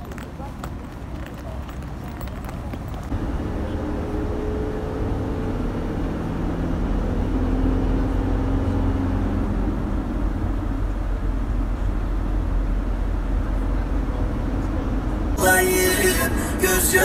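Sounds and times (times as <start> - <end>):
faint engine hum: 0.0 - 17.0
road noise inside van: 0.0 - 17.0.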